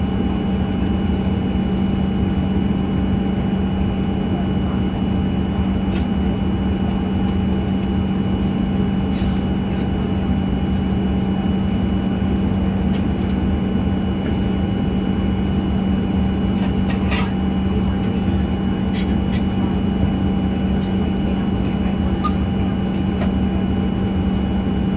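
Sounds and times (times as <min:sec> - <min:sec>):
airplane cabin hum: 0:00.0 - 0:24.9.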